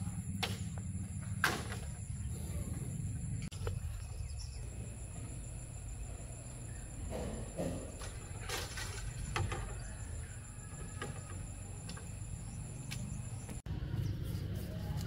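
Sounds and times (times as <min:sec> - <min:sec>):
insects droning: 0:00.0 - 0:13.7.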